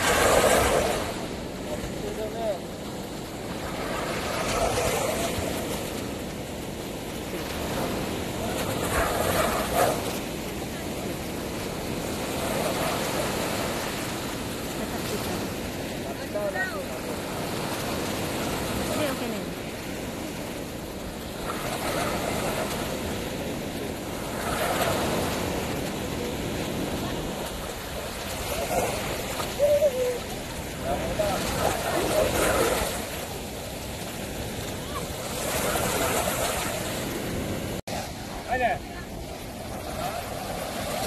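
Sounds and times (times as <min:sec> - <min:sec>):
sea waves breaking on beach: 0:00.0 - 0:41.0.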